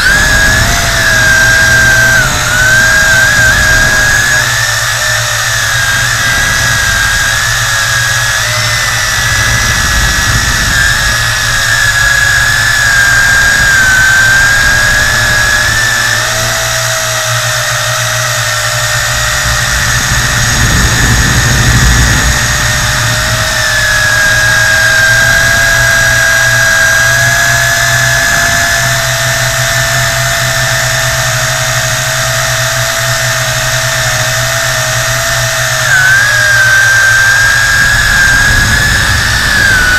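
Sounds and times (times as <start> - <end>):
drone propellers whining: 0.0 - 39.9
low rumble of air: 0.0 - 39.9.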